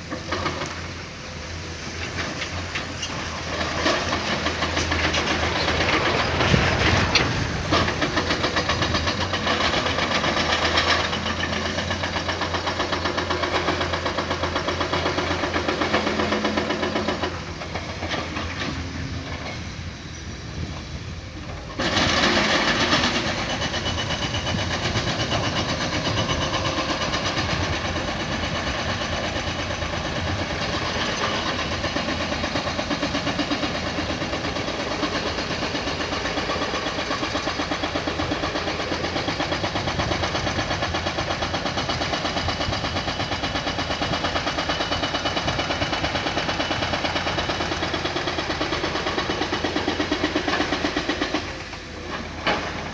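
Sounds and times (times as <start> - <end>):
excavator diesel engine: 0.0 - 52.9.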